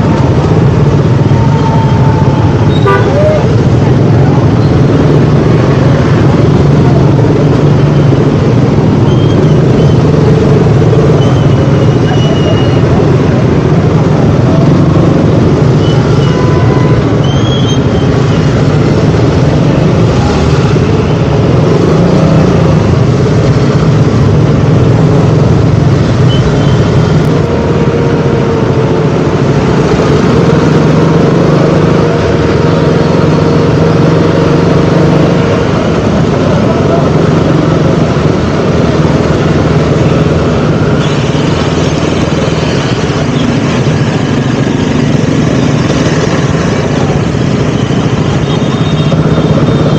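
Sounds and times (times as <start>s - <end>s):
city traffic: 0.0s - 49.9s
motorcycle engine riding: 0.0s - 49.9s.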